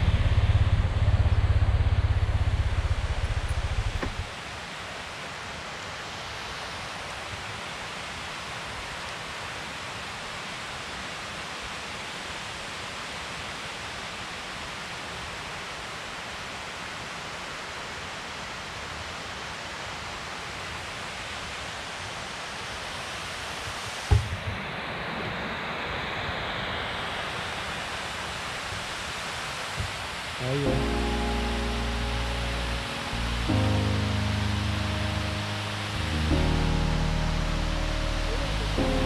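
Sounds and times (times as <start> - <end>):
river ambience rushing: 0.0 - 39.0.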